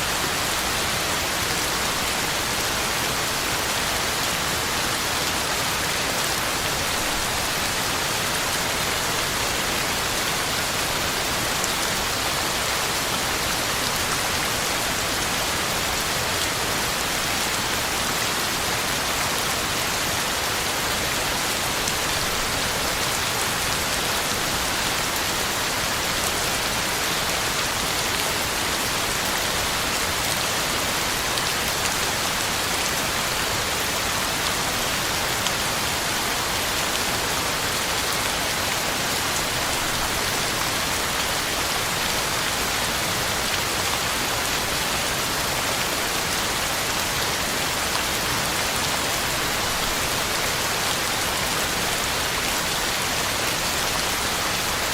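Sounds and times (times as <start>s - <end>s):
heavy rain on ground and leaves: 0.0s - 54.9s.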